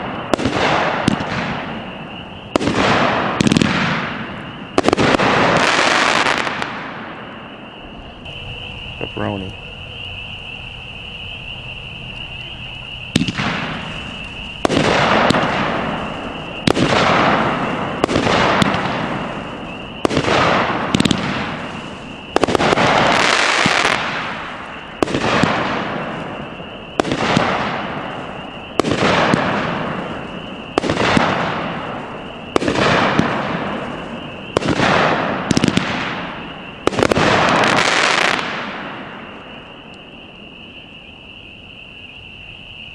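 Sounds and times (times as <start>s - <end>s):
firework shots: 0.0s - 8.4s, 13.1s - 40.6s
insects chirping: 0.0s - 42.9s.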